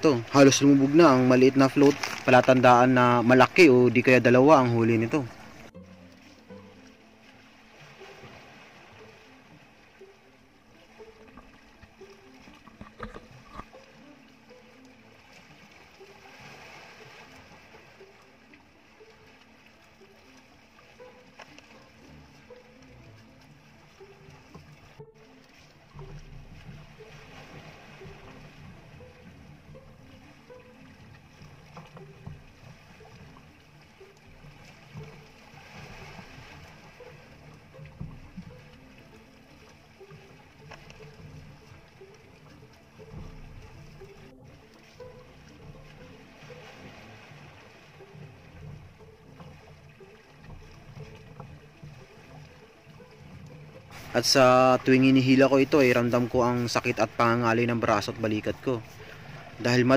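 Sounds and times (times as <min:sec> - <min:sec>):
water lapping around boat: 0:00.0 - 0:59.9.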